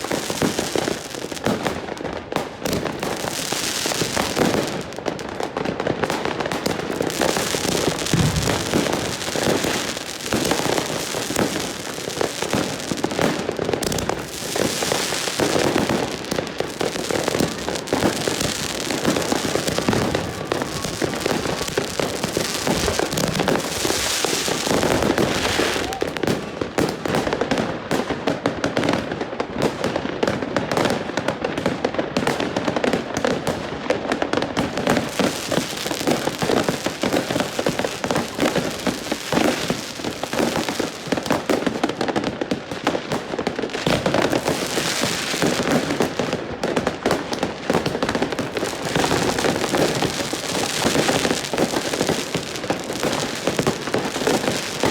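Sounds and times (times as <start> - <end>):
fireworks and firecrackers banging: 0.0 - 54.9.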